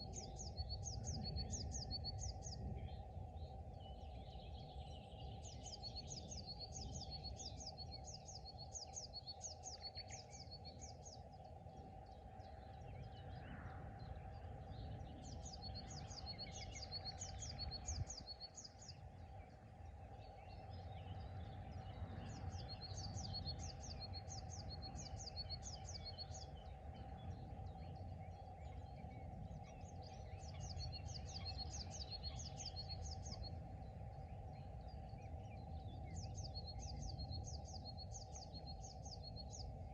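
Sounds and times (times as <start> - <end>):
faint constant hum: 0.0 - 39.9
steady low rumble: 0.0 - 39.9.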